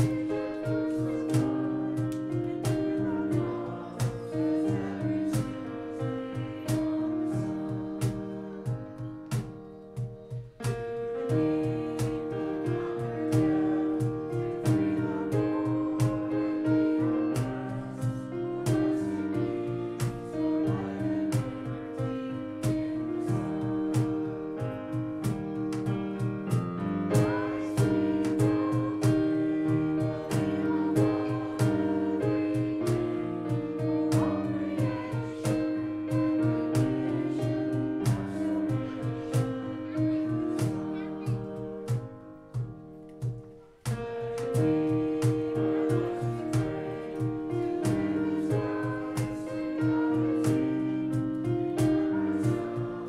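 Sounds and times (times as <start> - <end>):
people singing: 0.0 - 42.6, 43.2 - 53.0
keyboard: 0.0 - 53.0
steady drum beat: 0.0 - 53.0.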